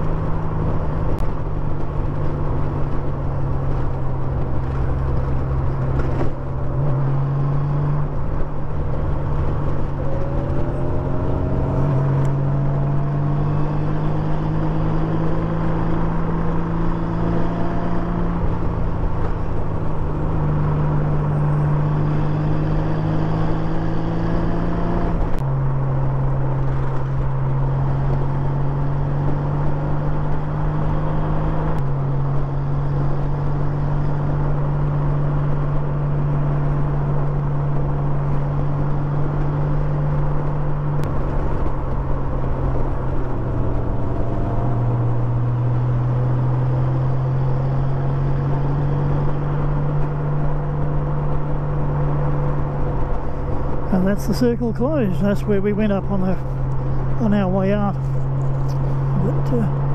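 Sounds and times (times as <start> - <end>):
road noise: 0.0 - 59.9
wind: 0.0 - 59.9.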